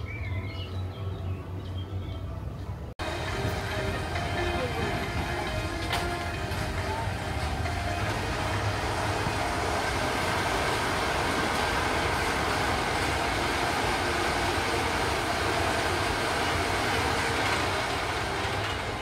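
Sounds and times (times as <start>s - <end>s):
roller coaster lift rattle: 2.6s - 19.0s.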